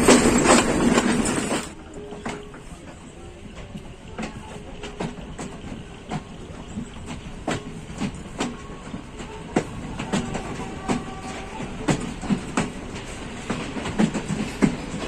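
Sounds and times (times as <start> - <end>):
train rumbling along track: 0.0 - 15.0
wheels clicking and knocking: 0.0 - 15.0.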